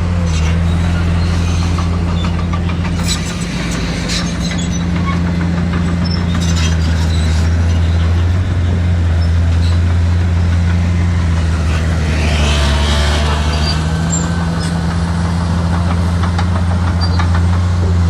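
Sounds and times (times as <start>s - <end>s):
heavy diesel machine engine: 0.0s - 18.0s.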